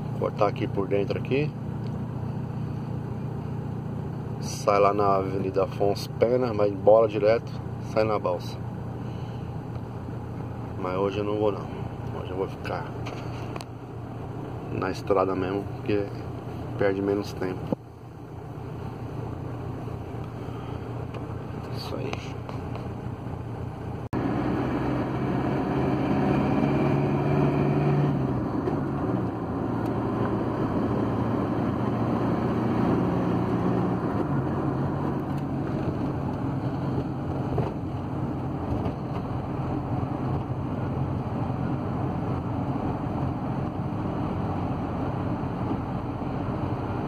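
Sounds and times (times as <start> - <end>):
diesel van engine running: 0.0 - 47.0
road noise: 0.0 - 47.0.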